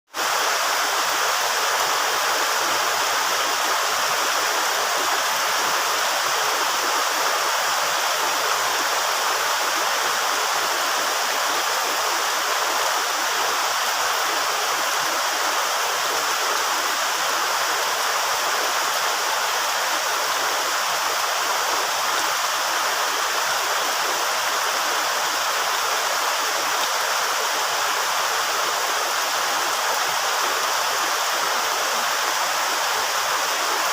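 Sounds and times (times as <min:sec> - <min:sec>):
steady rain: 0:00.1 - 0:33.9.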